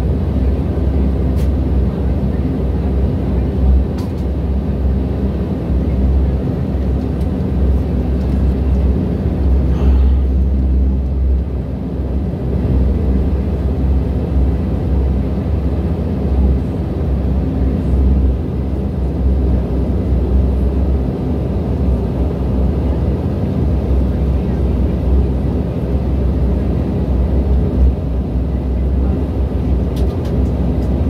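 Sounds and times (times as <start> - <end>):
turboprop engines droning: 0.0 - 31.0.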